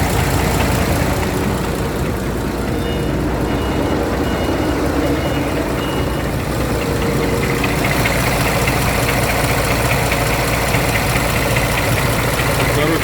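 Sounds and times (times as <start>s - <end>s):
diesel truck engine idling: 0.0s - 13.0s
engine knock: 0.0s - 13.0s.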